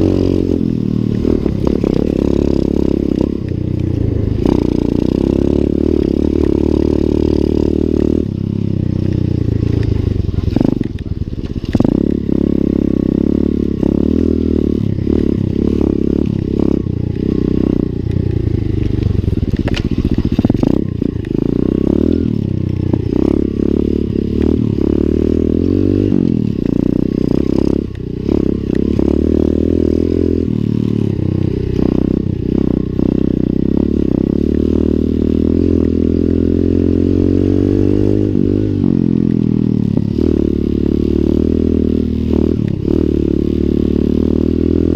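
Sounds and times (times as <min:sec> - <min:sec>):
motorbike engine revving: 0:00.0 - 0:44.9.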